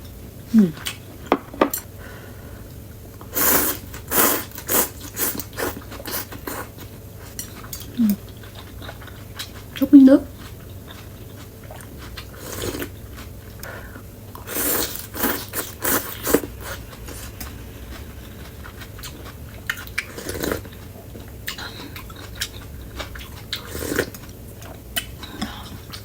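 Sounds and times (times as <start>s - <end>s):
slurping and chewing: 3.2s - 26.0s.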